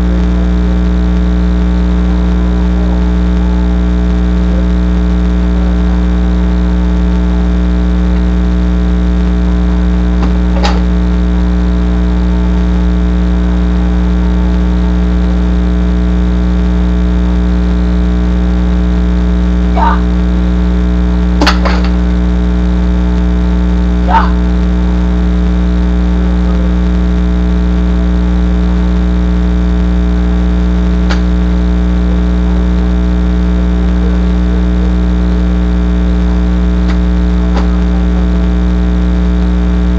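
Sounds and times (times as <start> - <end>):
loud electrical hum: 0.0 - 39.9.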